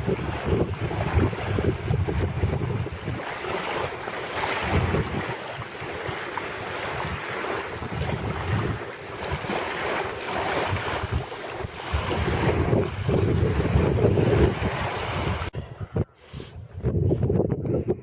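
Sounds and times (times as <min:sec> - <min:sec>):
sea waves washing ashore: 0:00.0 - 0:15.6
wind buffeting microphone: 0:00.0 - 0:18.0.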